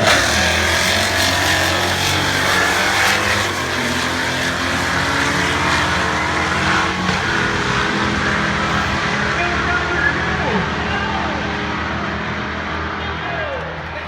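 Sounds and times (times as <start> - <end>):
race cars at full throttle: 0.0 - 14.0.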